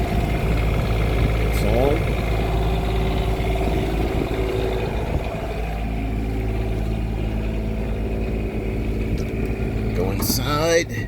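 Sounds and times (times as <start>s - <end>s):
diesel generator running: 0.0s - 11.0s.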